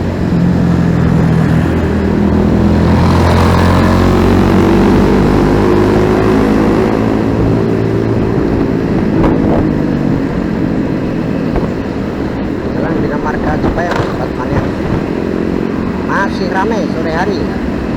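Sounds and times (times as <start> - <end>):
motorcycle engine drone: 0.0 - 17.9
road noise: 0.0 - 17.9.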